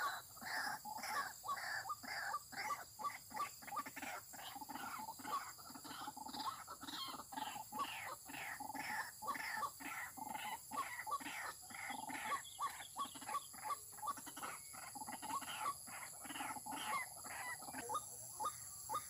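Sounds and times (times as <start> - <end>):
waterhen harsh calls: 0.0 - 19.0.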